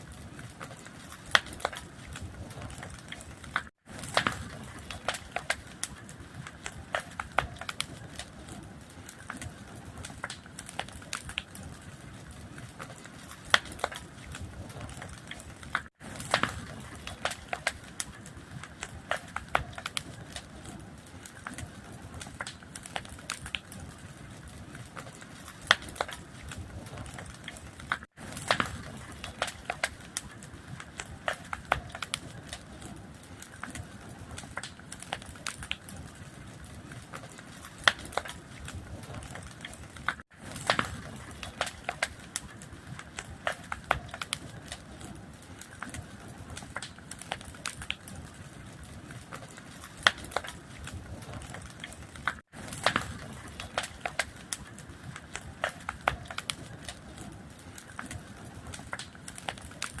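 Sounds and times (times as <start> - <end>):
fire crackling: 0.0 - 60.0.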